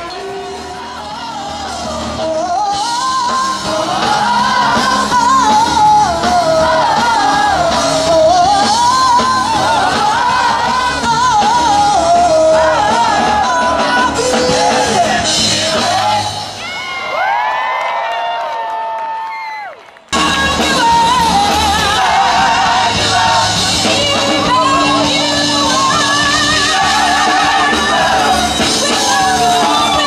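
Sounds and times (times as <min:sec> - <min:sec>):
large choir singing: 0:00.0 - 0:16.6, 0:20.2 - 0:30.0.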